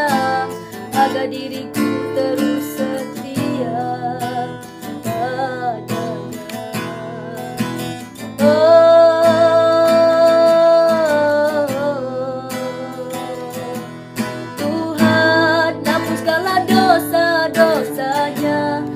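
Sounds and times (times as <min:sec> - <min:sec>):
acoustic guitar strumming: 0:00.0 - 0:18.9
person singing: 0:00.0 - 0:18.9.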